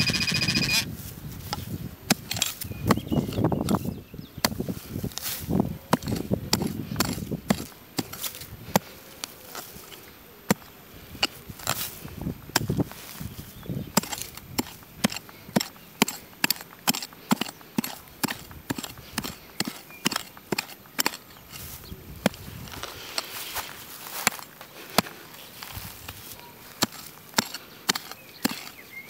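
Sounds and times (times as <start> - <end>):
dry grass crackling underfoot: 0.0 - 29.0.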